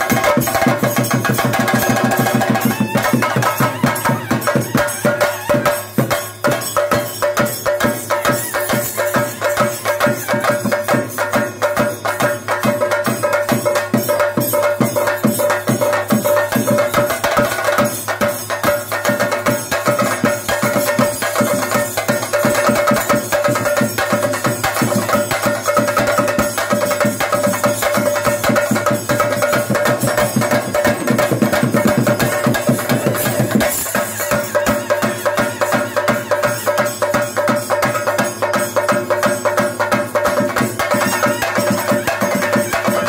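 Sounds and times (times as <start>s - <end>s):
cymbals: 0.0s - 43.0s
drums playing fast rhythm: 0.0s - 43.0s.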